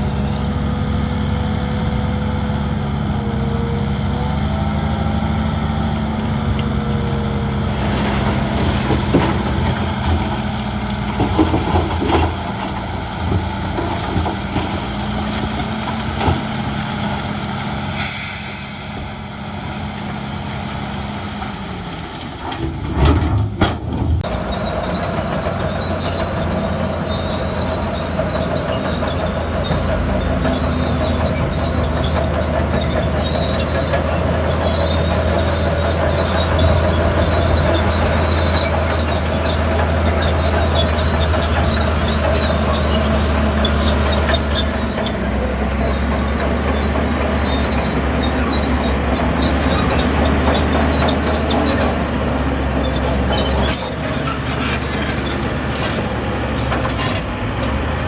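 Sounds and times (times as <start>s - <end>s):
heavy diesel machinery running: 0.0s - 58.0s
high metallic squeal and clatter: 6.8s - 20.8s, 21.4s - 58.0s.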